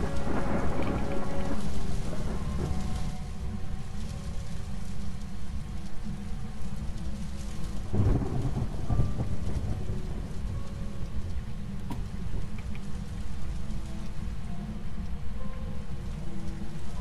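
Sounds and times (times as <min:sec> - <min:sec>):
thunder roll: 0:00.0 - 0:14.3
storm rumble: 0:00.0 - 0:17.0.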